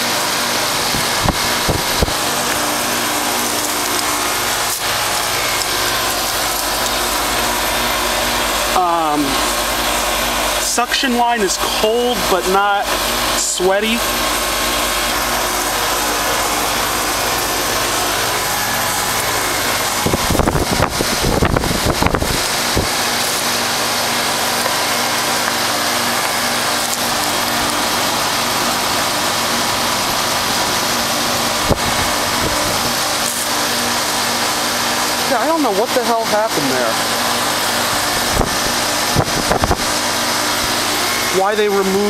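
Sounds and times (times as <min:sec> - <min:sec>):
compressor humming: 0:00.0 - 0:42.0
condenser fan rushing: 0:00.0 - 0:42.0.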